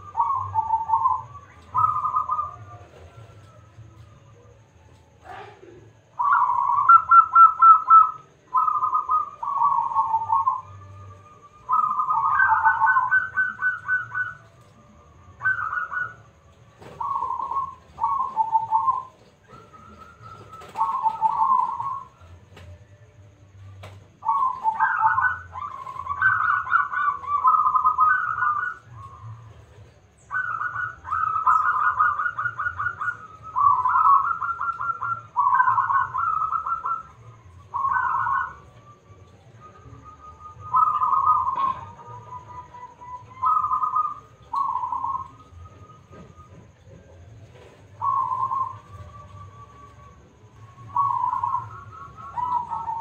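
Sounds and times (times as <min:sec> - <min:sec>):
dove cooing: 0:00.0 - 0:53.0
faint low hum: 0:00.0 - 0:53.0.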